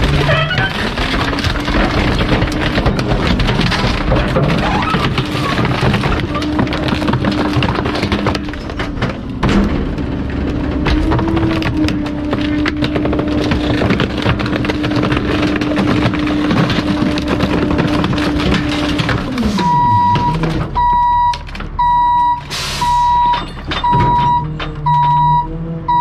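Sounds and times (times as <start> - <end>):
wood cracking and splintering: 0.0 - 22.6.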